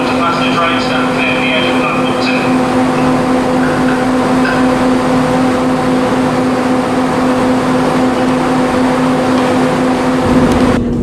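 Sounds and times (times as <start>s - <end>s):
train electrical equipment humming: 0.0s - 11.0s.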